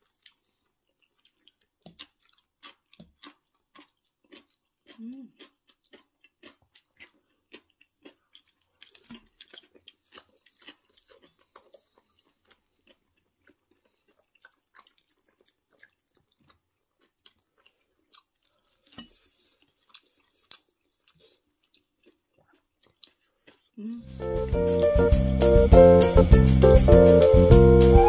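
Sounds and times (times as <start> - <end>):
chewing and crunching: 0.0 - 25.0.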